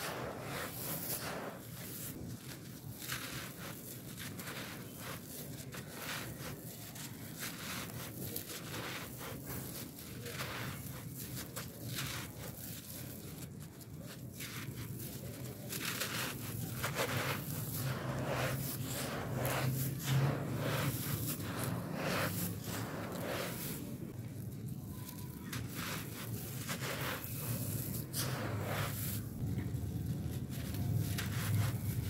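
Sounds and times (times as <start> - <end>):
sand and gravel crunching and pouring: 0.0 - 32.0.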